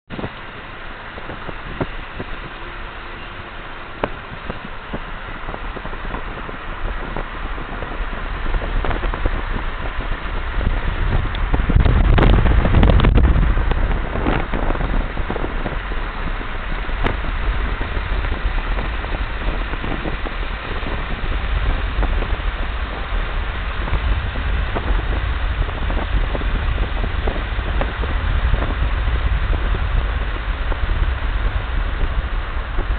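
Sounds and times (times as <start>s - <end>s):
wind and road noise from car: 0.0s - 32.9s
wind buffeting on microphone: 0.1s - 32.9s.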